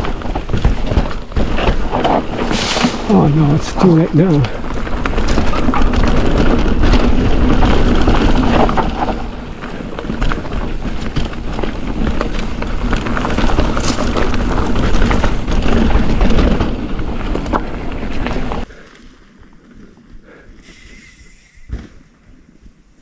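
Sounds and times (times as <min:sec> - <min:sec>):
bike clicks and knocks from bumps: 0:00.0 - 0:03.0, 0:04.4 - 0:20.2
wind buffeting microphone: 0:00.0 - 0:18.7
mountain bike rolling and rattling: 0:00.0 - 0:20.6.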